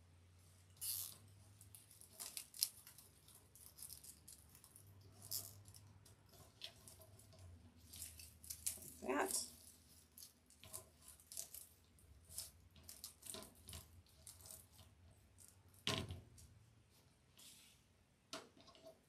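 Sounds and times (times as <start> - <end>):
plastic mesh crinkling: 0.6 - 16.5.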